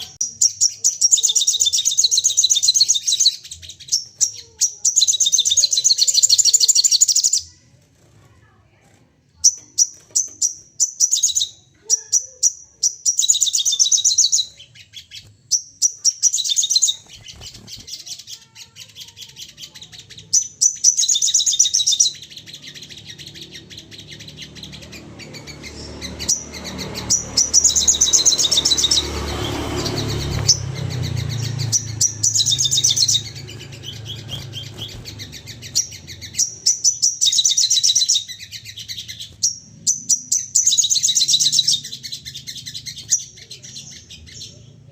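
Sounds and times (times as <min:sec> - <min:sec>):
songbird chattering trills: 0:00.0 - 0:07.6, 0:09.4 - 0:44.9.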